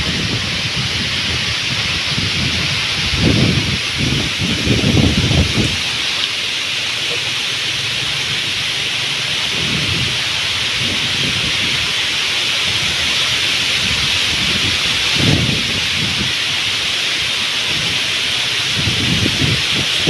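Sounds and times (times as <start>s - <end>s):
wind buffeting microphone: 0.0s - 20.0s
wind through bamboo and leaves: 0.0s - 20.0s.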